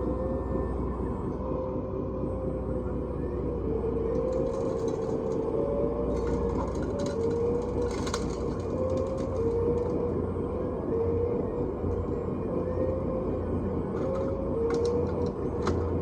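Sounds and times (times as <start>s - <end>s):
low rumble: 0.0s - 16.0s
motor whine: 0.0s - 16.0s.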